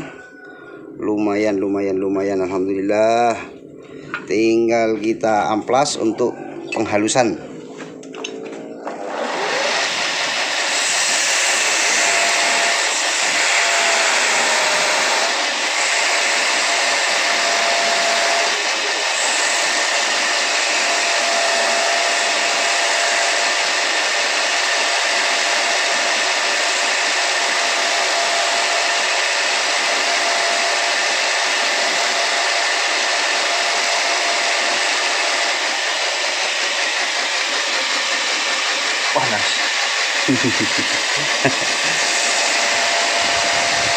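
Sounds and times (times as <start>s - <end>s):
power tool motor hum: 8.1s - 43.9s.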